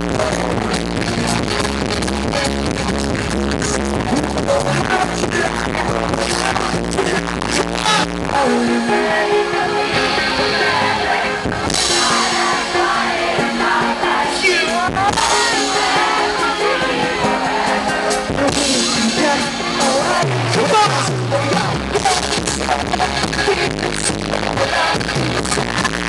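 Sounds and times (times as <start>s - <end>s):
live pop-rock band playing: 0.0s - 26.0s
person singing: 4.0s - 26.0s.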